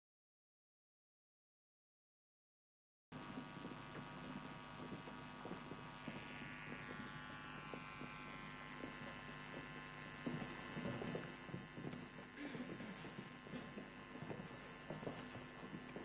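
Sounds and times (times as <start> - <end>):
faint electrical hum: 3.2 - 16.0.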